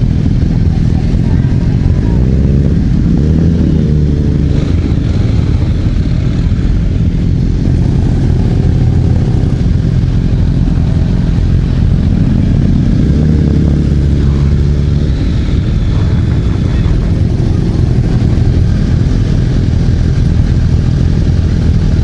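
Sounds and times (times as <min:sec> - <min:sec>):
motorcycle engine droning: 0:00.0 - 0:22.0.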